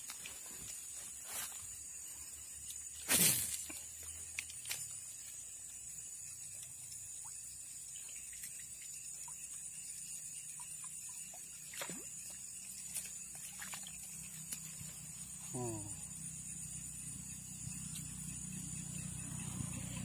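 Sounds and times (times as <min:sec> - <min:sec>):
small water sounds: 0:00.0 - 0:01.2, 0:01.8 - 0:18.3
high-pitched insect drone: 0:00.0 - 0:20.0.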